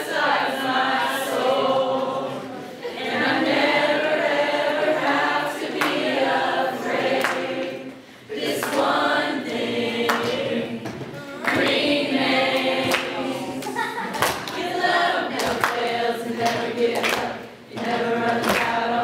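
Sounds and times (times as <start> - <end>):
girls singing together: 0.0 - 19.0.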